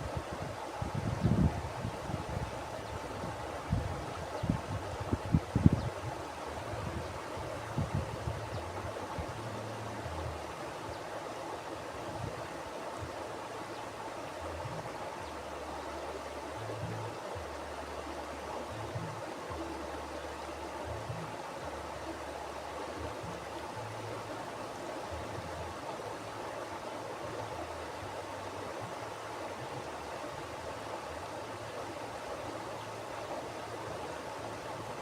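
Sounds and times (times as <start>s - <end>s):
river rushing over rocks: 0.0s - 35.0s.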